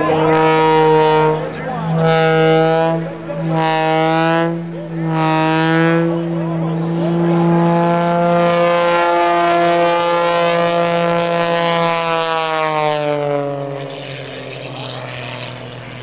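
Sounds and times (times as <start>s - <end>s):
biplane engine buzzing drone: 0.0s - 16.0s.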